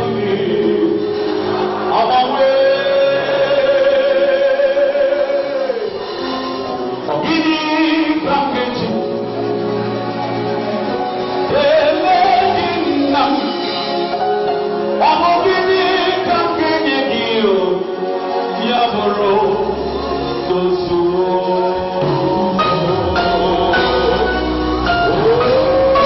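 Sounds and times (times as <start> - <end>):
choir singing gospel music: 0.0 - 26.0
sustained accompaniment: 0.0 - 26.0.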